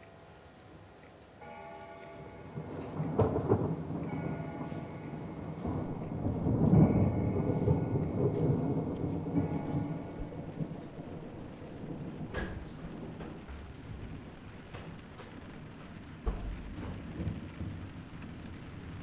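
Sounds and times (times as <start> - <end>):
rain: 0.0 - 19.0
thunder rolling: 2.5 - 19.0.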